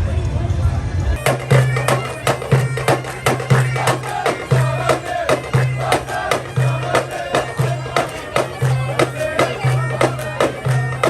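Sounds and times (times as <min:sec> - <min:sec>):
reedy wind instrument melody: 0:01.2 - 0:11.0
steady drum beat: 0:01.2 - 0:11.0.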